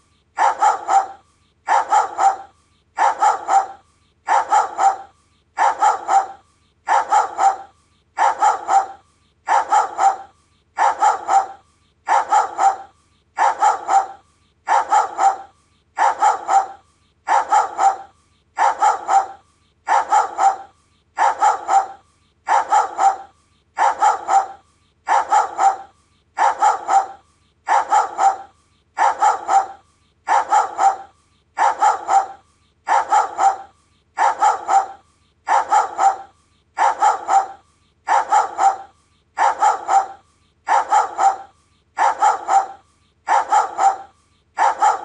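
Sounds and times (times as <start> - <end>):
dog barking: 0.4 - 45.0.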